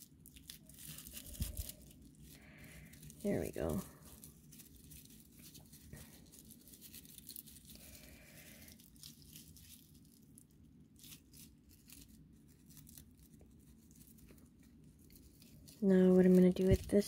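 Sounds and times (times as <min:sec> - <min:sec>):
dry raffia rustling and crinkling: 0:00.0 - 0:17.0.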